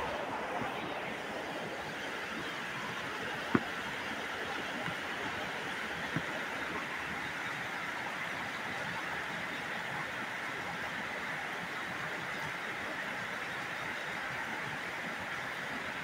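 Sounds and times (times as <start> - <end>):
heavy rain on water and roofs: 0.0 - 16.0.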